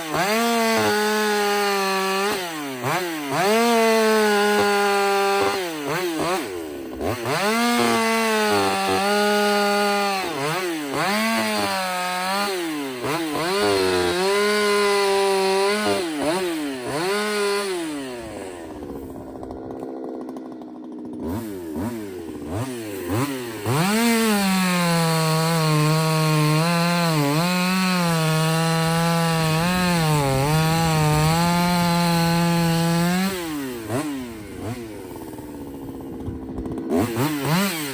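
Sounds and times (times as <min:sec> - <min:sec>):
chainsaw cutting firewood: 0:00.0 - 0:37.9.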